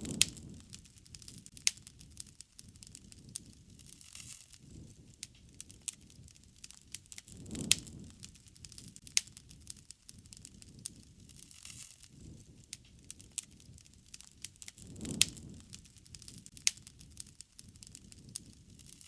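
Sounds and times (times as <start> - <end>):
flames rushing: 0.0 - 19.0
wood fire crackling: 0.0 - 19.0.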